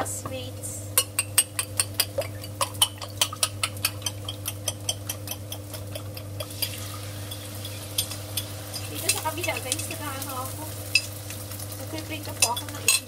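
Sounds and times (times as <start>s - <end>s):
sausage and onions frying: 0.0s - 13.0s
steady hum: 0.0s - 13.0s.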